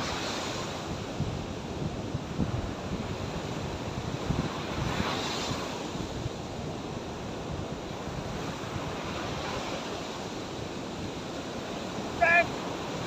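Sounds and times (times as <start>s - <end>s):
sea surf washing onto shore: 0.0s - 13.0s
wind rumbling on microphone: 0.0s - 13.0s.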